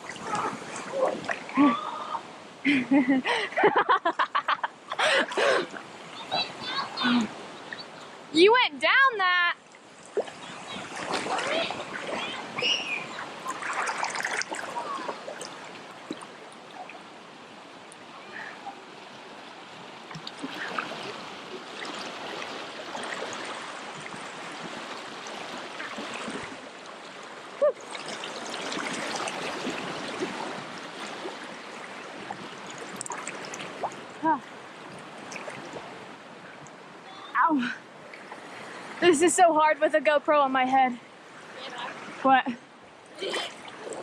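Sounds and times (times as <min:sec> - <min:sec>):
water splashing: 0:00.0 - 0:03.9, 0:05.0 - 0:08.3, 0:09.6 - 0:39.4, 0:43.1 - 0:44.0.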